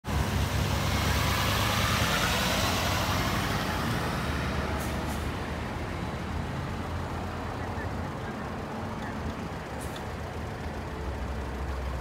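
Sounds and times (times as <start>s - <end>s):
diesel engine running: 0.1s - 12.0s.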